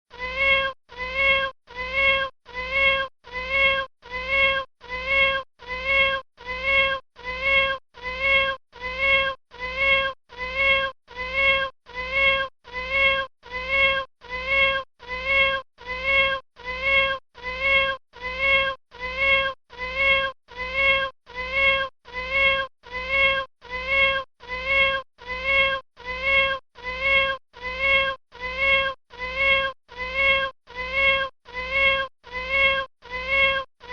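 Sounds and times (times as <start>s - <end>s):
kitten mewing: 0.1s - 33.7s.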